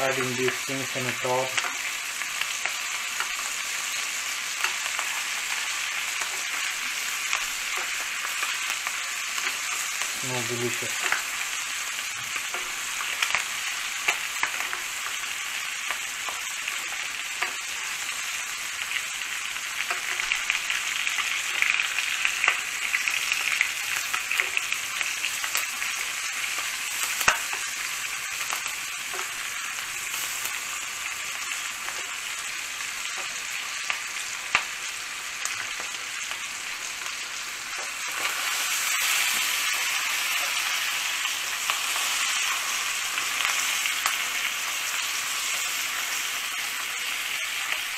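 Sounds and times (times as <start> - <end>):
fat crackling and popping: 0.0 - 47.0
meat sizzling in a frying pan: 0.0 - 47.9.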